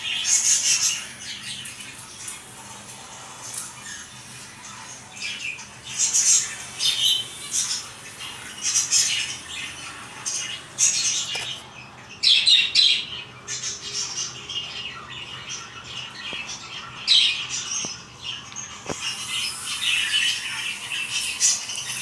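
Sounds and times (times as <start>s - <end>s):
birds squawking and chirping: 0.0s - 22.0s.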